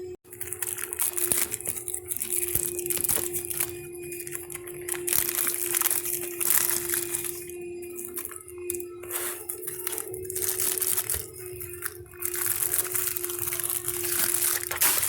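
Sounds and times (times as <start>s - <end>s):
packaging crinkling and rustling: 0.3s - 15.0s.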